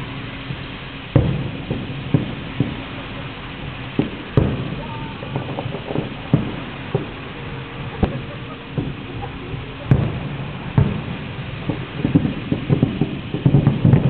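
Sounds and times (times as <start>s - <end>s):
firework booms: 0.0s - 14.0s
firework pops and crackles: 0.0s - 14.0s.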